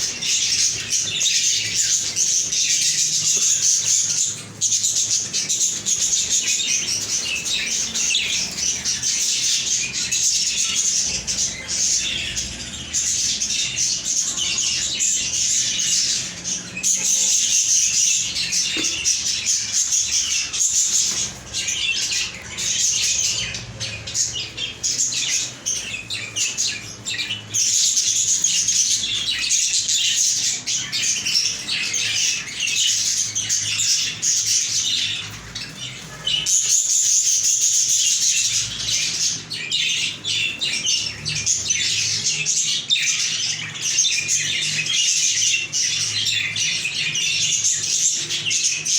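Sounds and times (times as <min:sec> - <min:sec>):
budgerigar chirping and chattering: 0:00.0 - 0:48.9.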